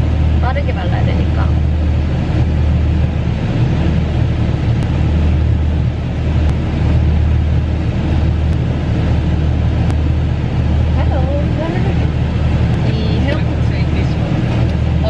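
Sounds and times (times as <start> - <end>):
airliner cabin roar: 0.0 - 15.0.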